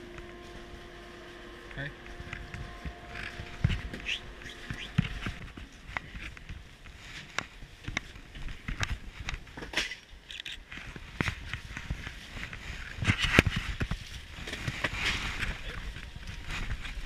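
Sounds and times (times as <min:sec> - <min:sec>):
footsteps: 0:00.0 - 0:10.0, 0:10.6 - 0:17.0.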